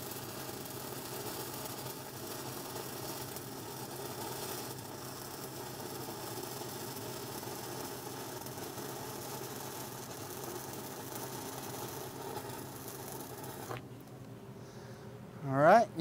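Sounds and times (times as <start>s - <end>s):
welding arc crackle: 0.0s - 14.1s
steady low hum: 0.2s - 16.0s.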